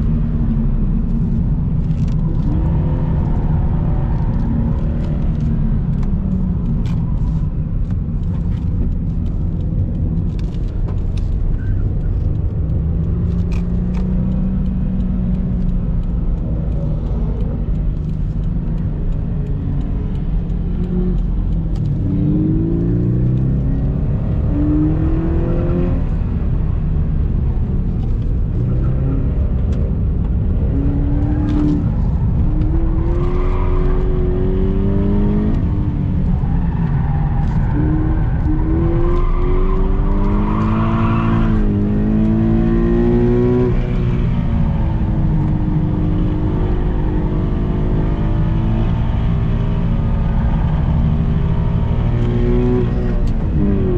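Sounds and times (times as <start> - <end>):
car engine revving: 0.0 - 53.9
road and wind noise: 0.0 - 53.9.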